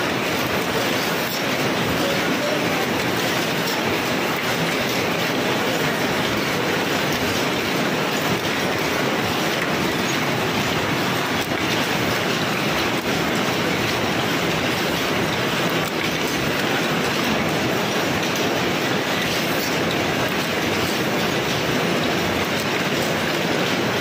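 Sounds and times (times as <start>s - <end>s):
machine clattering: 0.0s - 24.0s.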